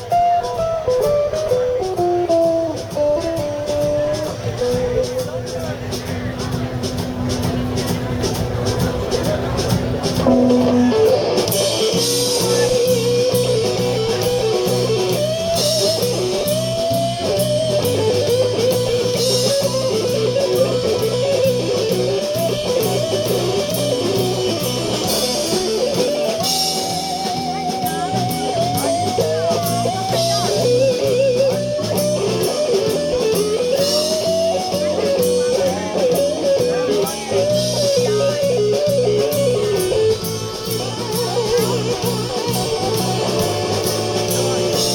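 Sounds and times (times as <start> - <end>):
electric guitar solo: 0.0 - 4.9, 10.2 - 44.9
blues-rock band playing: 0.0 - 44.9.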